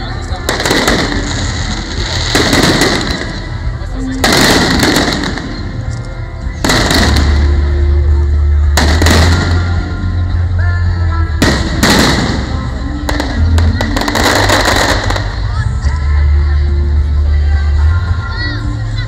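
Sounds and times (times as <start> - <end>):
music with heavy bass: 0.0 - 19.0.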